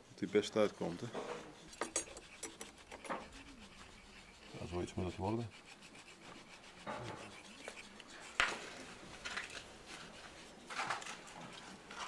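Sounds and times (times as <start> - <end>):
wooden branch scraping stone: 0.8 - 12.0.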